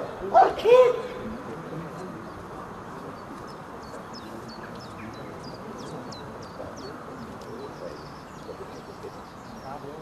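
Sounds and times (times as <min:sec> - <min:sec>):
low background noise: 0:00.0 - 0:10.0
small birds chirping: 0:01.2 - 0:10.0.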